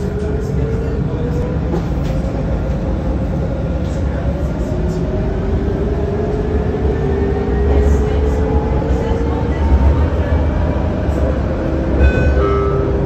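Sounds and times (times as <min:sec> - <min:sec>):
tram rumble and hiss: 0:00.0 - 0:13.0.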